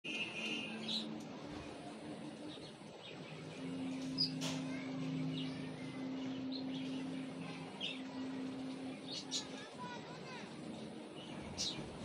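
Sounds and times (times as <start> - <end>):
birds chirping: 0.1 - 12.0
steady low hum: 0.1 - 12.0.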